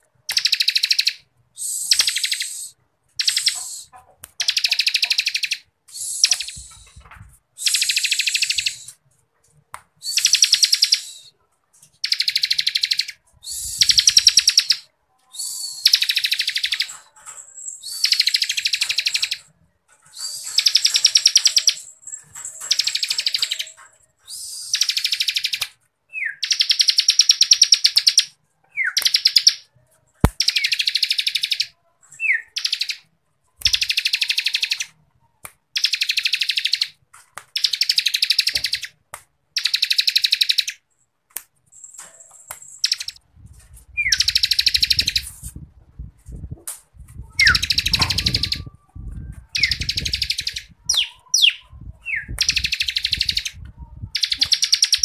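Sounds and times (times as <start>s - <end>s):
bird singing rattling song: 0.2s - 9.0s, 10.0s - 35.0s, 35.7s - 40.9s, 41.7s - 45.6s, 47.1s - 55.0s.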